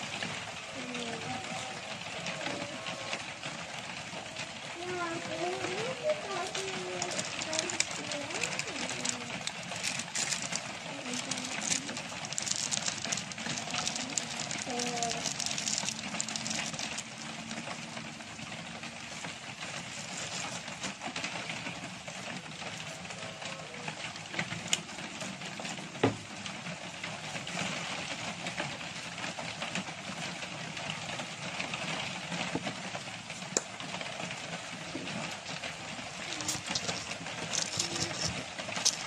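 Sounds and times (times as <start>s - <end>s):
rain hissing: 0.0s - 39.0s.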